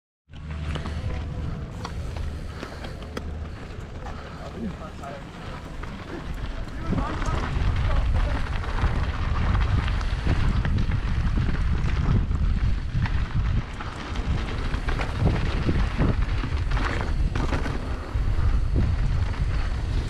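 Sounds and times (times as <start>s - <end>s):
bike clicks and rattles: 0.3s - 20.0s
wind buffeting microphone: 0.5s - 20.0s.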